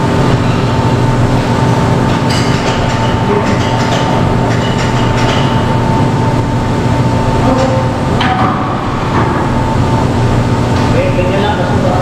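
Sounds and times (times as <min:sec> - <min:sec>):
constant machine whine: 0:00.0 - 0:12.0
industrial machinery rumble: 0:00.0 - 0:12.0.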